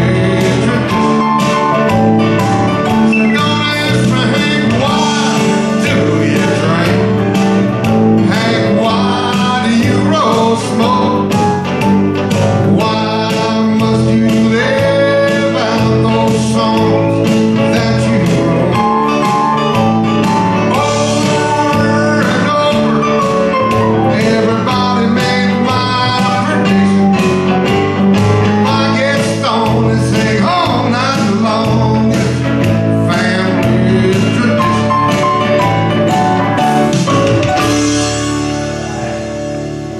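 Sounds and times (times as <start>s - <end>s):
live country band music: 0.0s - 39.9s.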